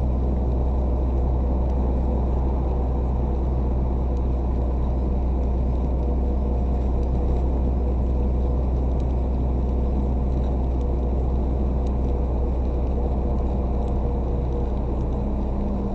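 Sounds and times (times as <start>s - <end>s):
truck engine rumbling: 0.0s - 15.9s.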